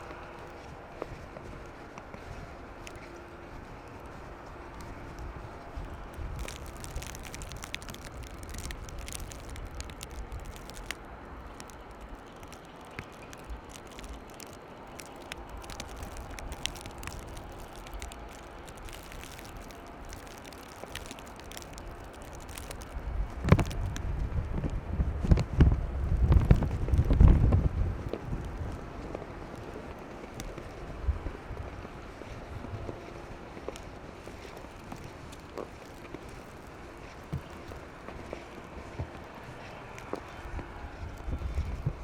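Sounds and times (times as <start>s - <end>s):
crackling clicks: 0.0s - 25.4s, 26.2s - 42.0s
low city rumble: 0.0s - 42.0s
wind buffeting microphone: 0.0s - 42.0s.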